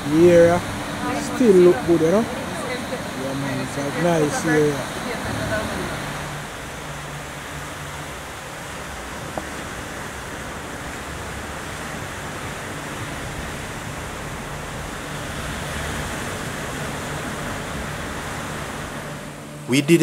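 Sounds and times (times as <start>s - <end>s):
rough surf breaking on shore: 0.0s - 20.0s.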